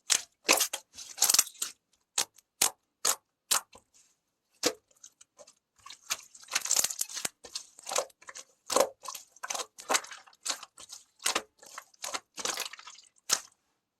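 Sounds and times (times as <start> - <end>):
hardened clay cracking and crunching: 0.0 - 3.9, 4.6 - 13.6.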